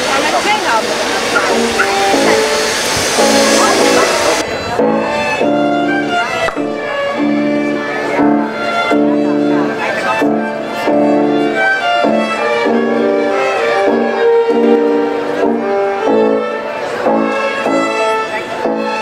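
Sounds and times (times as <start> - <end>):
children playing violins: 0.0 - 19.0.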